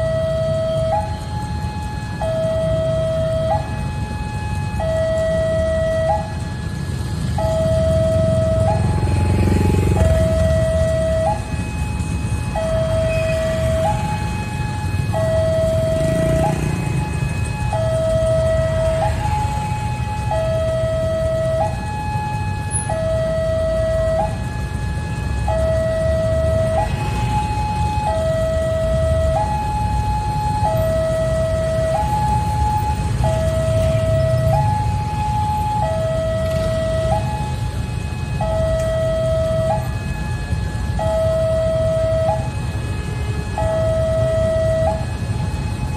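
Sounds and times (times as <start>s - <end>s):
motorcycle and car engines idling: 0.0s - 45.9s
two-tone level crossing alarm: 0.0s - 45.9s.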